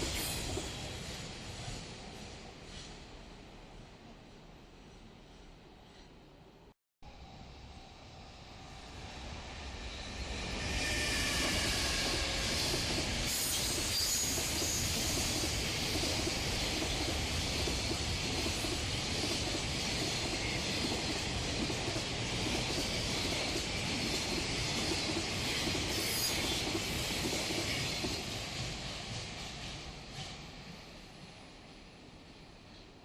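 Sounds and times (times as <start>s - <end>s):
freight train rumbling past: 0.0s - 6.1s, 7.1s - 33.0s.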